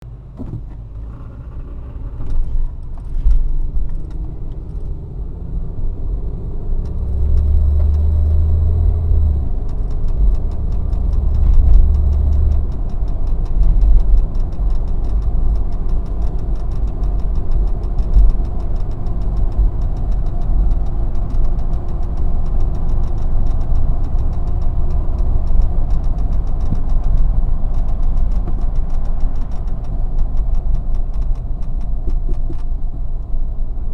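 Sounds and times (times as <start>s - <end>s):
car engine running: 0.1s - 33.3s
low buzzing from brakes: 4.5s - 32.3s.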